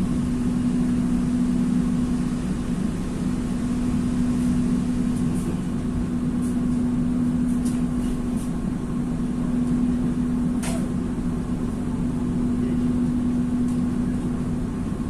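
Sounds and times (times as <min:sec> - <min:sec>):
train low hum: 0:00.0 - 0:15.0.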